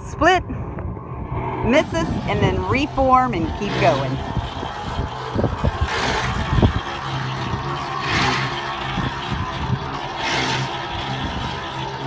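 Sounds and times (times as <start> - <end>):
low thumps: 0.0 - 10.1
engine hum: 0.0 - 12.0
rushing noise: 0.0 - 12.0.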